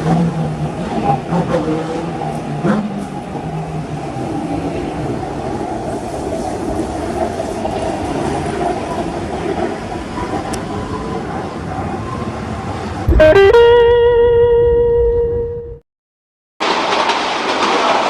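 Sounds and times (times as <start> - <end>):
train rumble: 0.0 - 13.4, 16.6 - 18.0.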